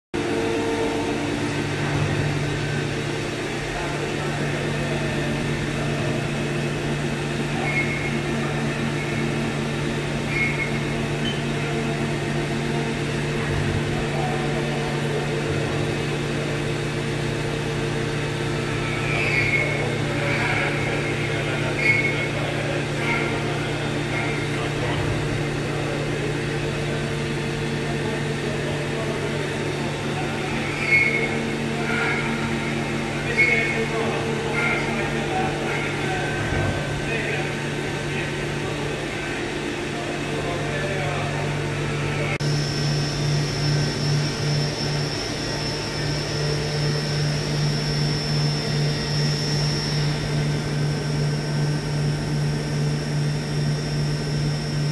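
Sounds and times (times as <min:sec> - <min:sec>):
milling machine humming: 0:00.2 - 0:54.9.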